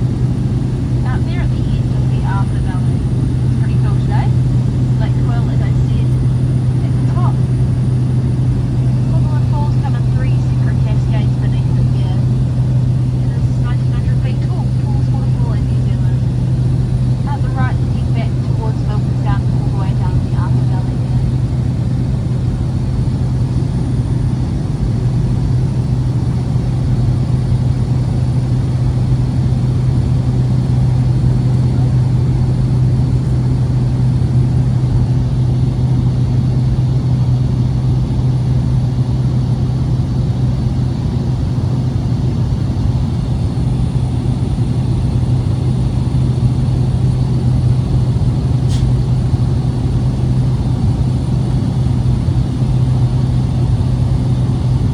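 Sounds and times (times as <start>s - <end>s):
propeller plane cabin drone: 0.0s - 54.9s.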